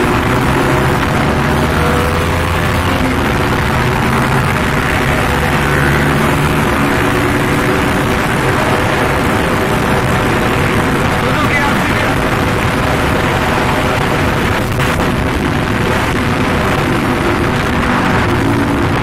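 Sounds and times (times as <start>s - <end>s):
motorcycle engine running: 0.0s - 19.0s
wind rush on microphone: 0.0s - 19.0s.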